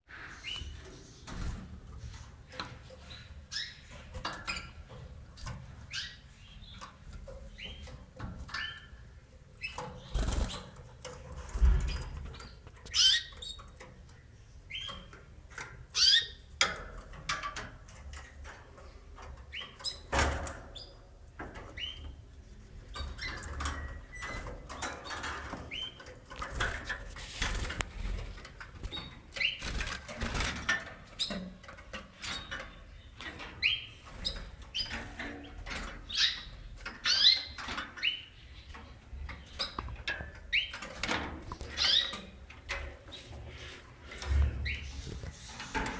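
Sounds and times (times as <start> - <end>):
canaries chirping: 0.1 - 45.9.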